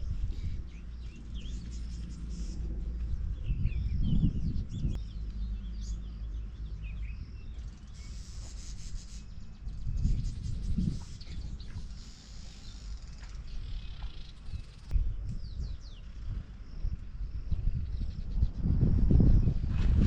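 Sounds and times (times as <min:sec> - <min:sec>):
low rumbling background: 0:00.0 - 0:08.6, 0:09.2 - 0:20.0
wild birds chirping: 0:00.0 - 0:16.9.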